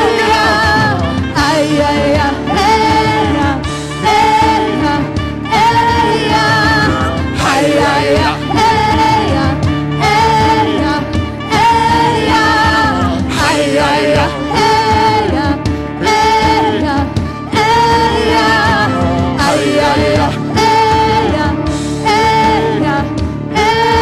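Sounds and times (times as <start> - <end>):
worship song with band: 0.0 - 24.0.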